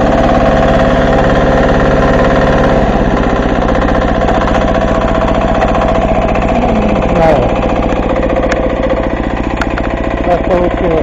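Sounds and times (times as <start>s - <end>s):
tractor diesel engine ploughing: 0.0s - 11.0s.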